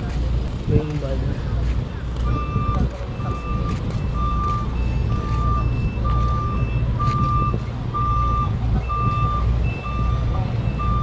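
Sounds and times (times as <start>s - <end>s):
truck engine running: 0.0s - 11.0s
truck reversing alarm beeping: 2.1s - 11.0s.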